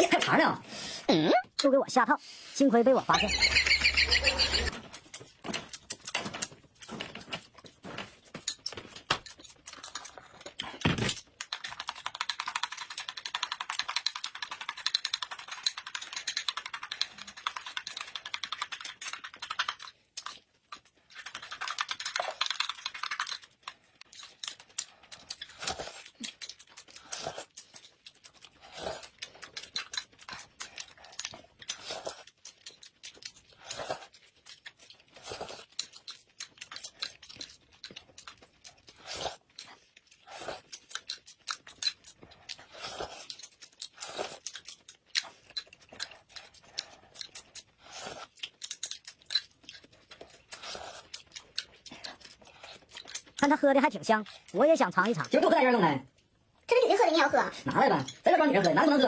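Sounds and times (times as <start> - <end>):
chewing and mouth noises: 4.2 - 59.0.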